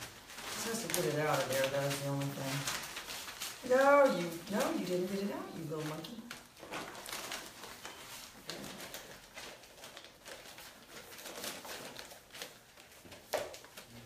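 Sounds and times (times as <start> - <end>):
clicks and rustles: 0.0 - 14.0
puppies scuffling: 0.0 - 14.0.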